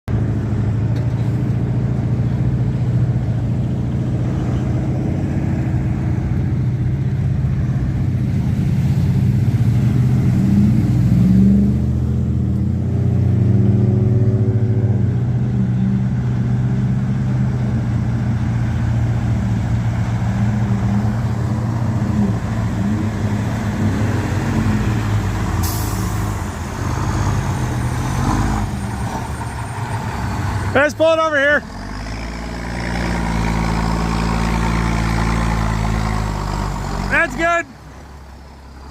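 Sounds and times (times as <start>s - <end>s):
truck engine under load: 0.1s - 38.9s.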